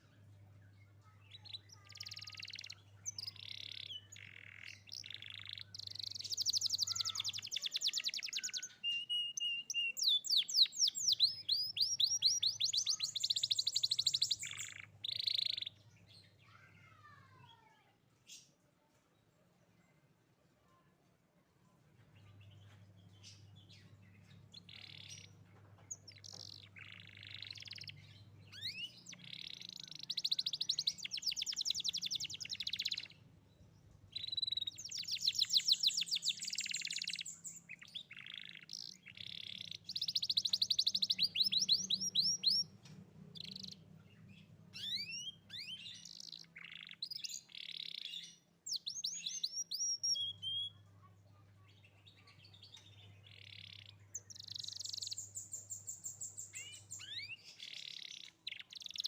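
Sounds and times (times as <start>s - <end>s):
canary singing: 0.0s - 17.0s, 22.3s - 50.9s, 51.7s - 59.0s.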